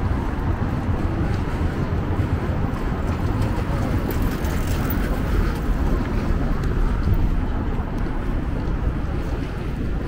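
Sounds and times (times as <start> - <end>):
city road traffic rumble: 0.0 - 10.0.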